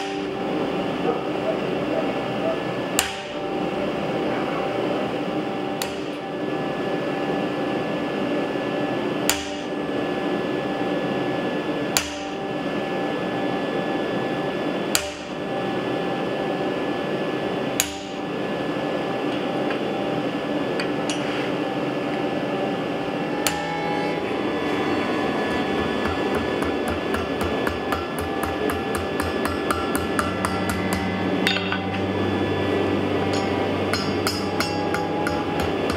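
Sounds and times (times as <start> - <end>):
steady background hum: 0.0 - 35.9.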